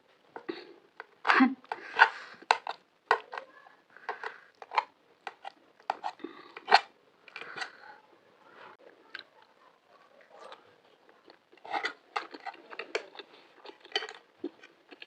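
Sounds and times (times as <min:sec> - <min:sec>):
crunching and chewing: 0:00.4 - 0:07.8, 0:10.2 - 0:15.0.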